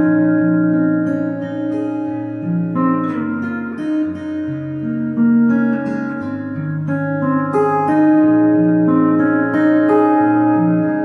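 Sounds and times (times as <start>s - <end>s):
fingerstyle acoustic guitar: 0.0s - 11.0s.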